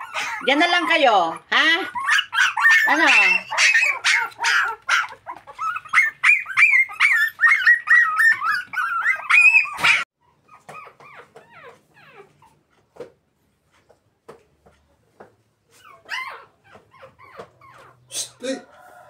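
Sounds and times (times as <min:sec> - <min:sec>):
faint puppy whimpers: 0:00.0 - 0:12.8, 0:15.7 - 0:18.4
puppies whining and yelping: 0:00.0 - 0:12.9, 0:15.6 - 0:18.2.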